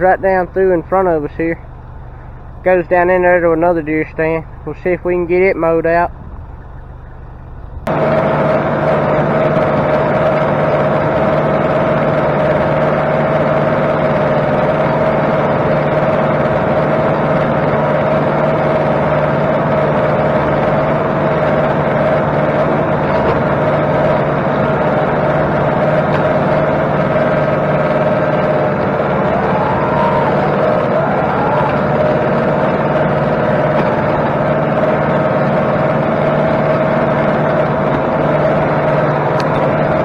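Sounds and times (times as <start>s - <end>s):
tractor droning: 0.0s - 40.0s.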